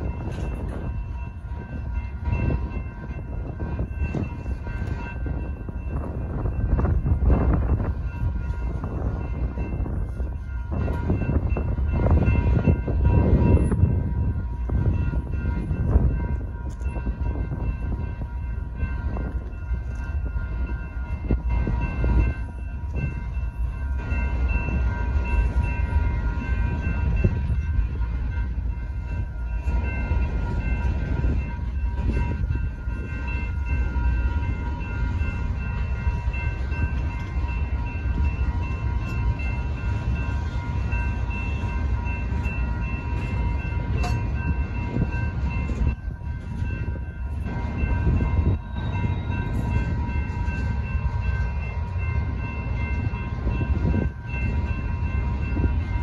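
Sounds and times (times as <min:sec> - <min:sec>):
crossing signal bells ringing: 0:00.0 - 0:56.0
train wheels rumbling on rails: 0:00.0 - 0:56.0.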